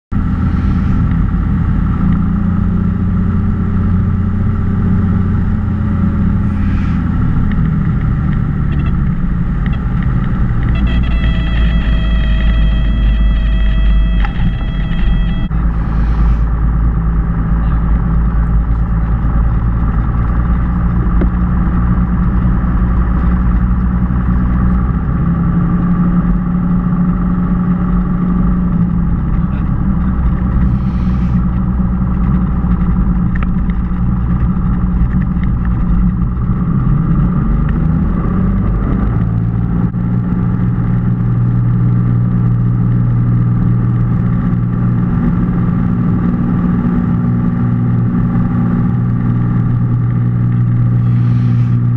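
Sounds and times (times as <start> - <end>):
airplane engine and propeller: 0.1 - 51.9.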